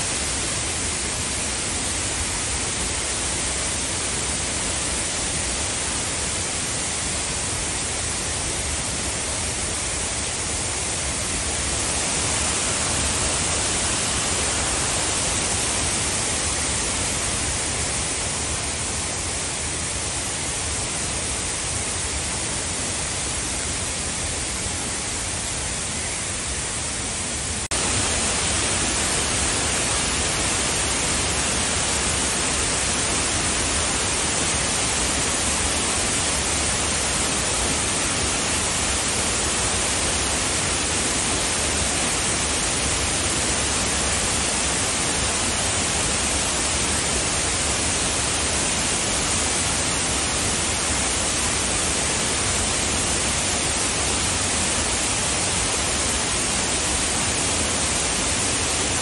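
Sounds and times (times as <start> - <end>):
waterfall rushing onto boulders: 0.0 - 59.0.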